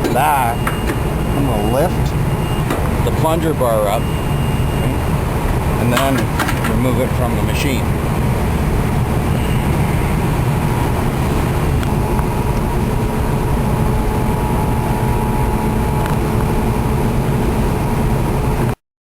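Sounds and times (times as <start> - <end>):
faint steady whine: 0.0 - 18.8
low engine rumble: 0.0 - 18.8.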